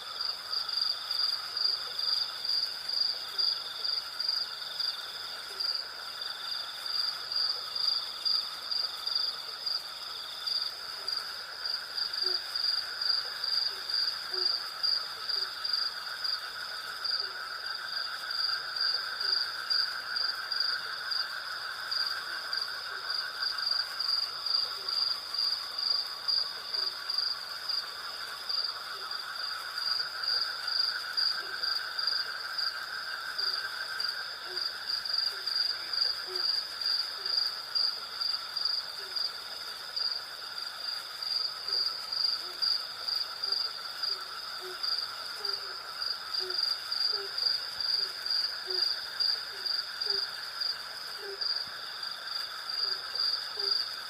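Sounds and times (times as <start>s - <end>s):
continuous insect drone: 0.0s - 54.0s
crickets chirping: 0.0s - 54.0s.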